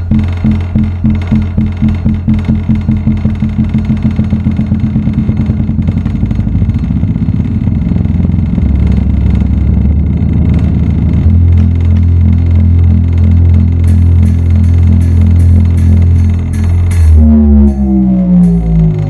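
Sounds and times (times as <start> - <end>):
continuous low bass hum: 0.0 - 19.0
deep bass pulses: 0.0 - 19.0.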